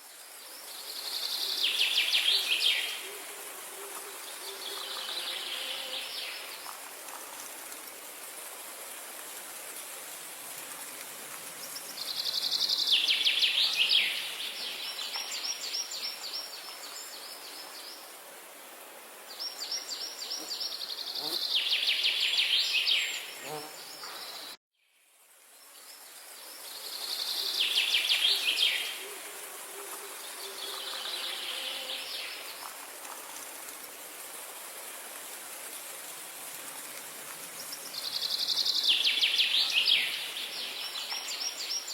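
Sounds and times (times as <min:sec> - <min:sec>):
steady background hiss: 0:00.0 - 0:41.9.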